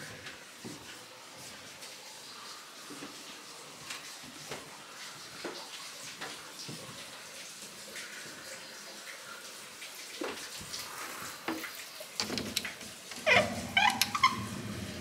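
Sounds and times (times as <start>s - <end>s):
water flowing into a bath: 0.0s - 15.0s.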